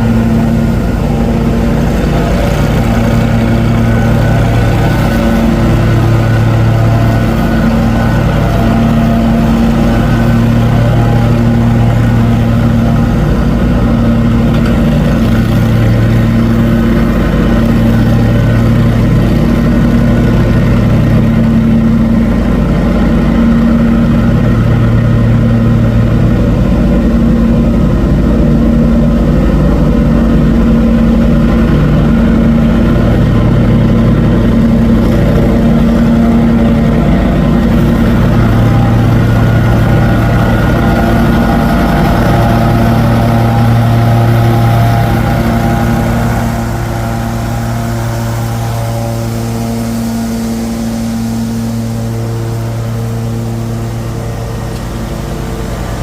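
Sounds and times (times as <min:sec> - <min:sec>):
motor engine running: 0:00.0 - 0:56.0.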